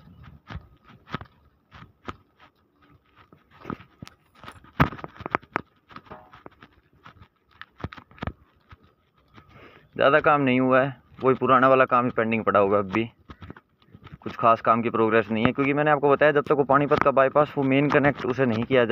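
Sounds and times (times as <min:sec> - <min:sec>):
flip-flop footsteps on gritty concrete: 0:00.0 - 0:18.9.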